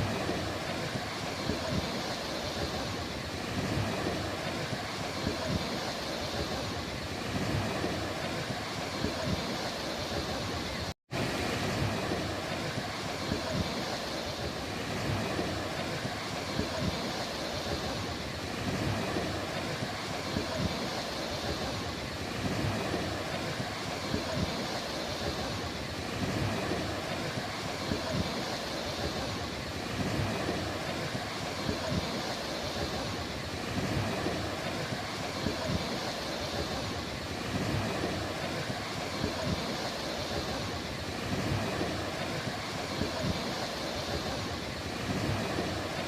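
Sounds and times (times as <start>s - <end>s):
ocean waves breaking: 0.0s - 46.0s
wind on microphone: 0.0s - 46.0s.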